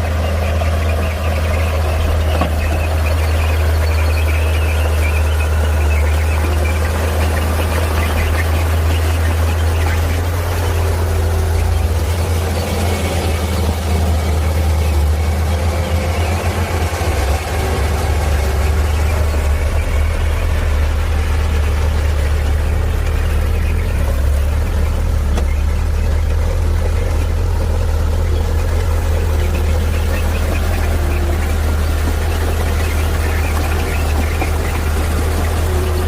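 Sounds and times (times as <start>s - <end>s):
heavy diesel engine rumbling: 0.0s - 36.0s.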